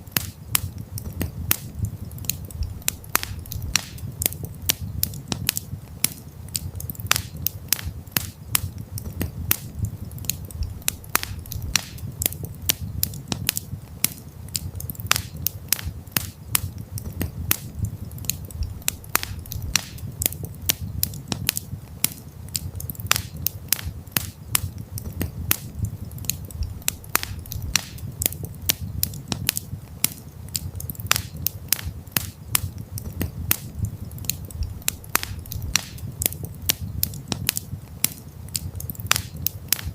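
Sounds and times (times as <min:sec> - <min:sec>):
campfire crackling and popping: 0:00.0 - 0:39.9
low rumble of burning wood: 0:00.0 - 0:39.9.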